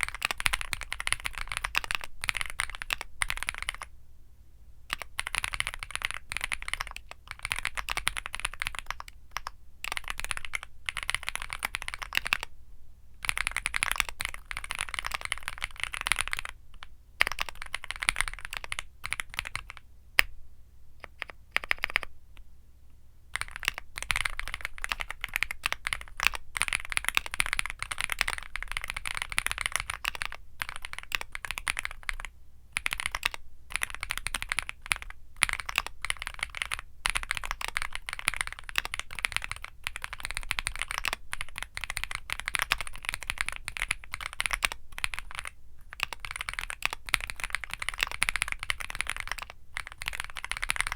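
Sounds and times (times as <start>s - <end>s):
mechanical keyboard typing: 0.0s - 3.9s, 4.9s - 12.5s, 13.2s - 19.8s, 21.0s - 22.1s, 23.4s - 50.9s.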